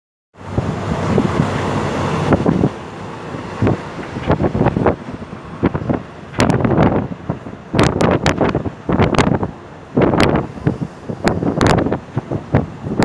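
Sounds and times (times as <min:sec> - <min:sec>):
moving train rumble: 0:00.4 - 0:13.0
wind buffeting microphone: 0:00.4 - 0:13.0.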